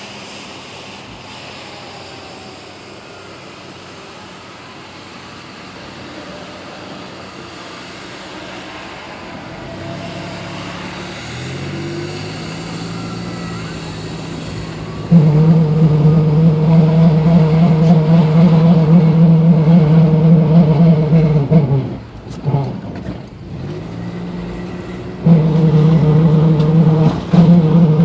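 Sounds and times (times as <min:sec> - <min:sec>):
car road noise rushing: 0:00.0 - 0:28.0.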